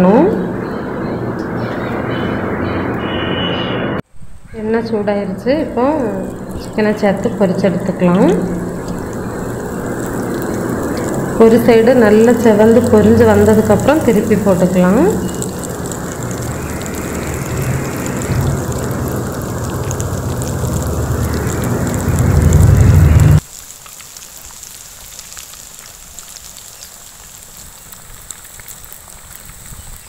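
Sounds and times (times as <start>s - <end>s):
chicken deep-frying in oil: 5.4s - 30.0s
oil crackles: 5.6s - 30.0s.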